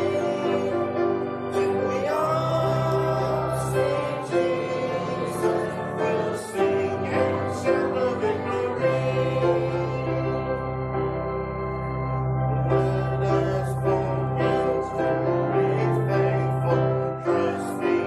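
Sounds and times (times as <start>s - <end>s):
congregation singing a hymn: 0.0s - 18.0s
instrumental accompaniment: 0.0s - 18.0s.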